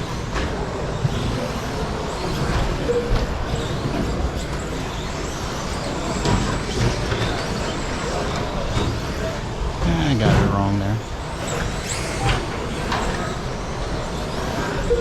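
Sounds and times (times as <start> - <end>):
rc truck motor and tyre noise: 0.0 - 15.0.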